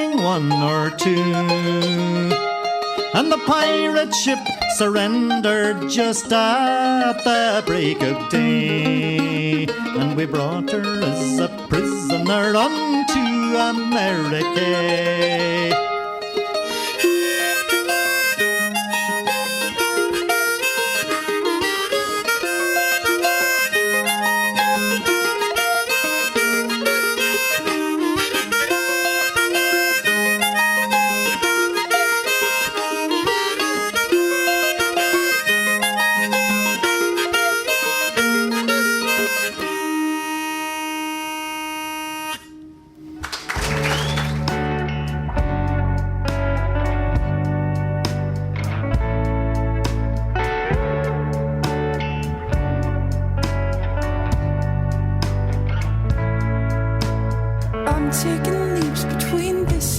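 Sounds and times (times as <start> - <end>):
folk ballad instrumental: 0.0 - 59.9
guitar playing: 0.0 - 59.9.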